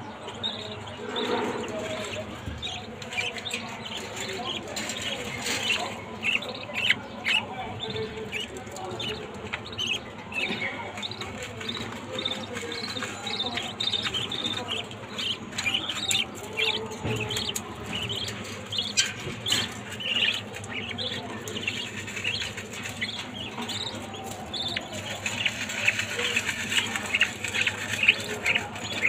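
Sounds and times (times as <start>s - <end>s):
budgerigars chirping: 0.3s - 29.0s.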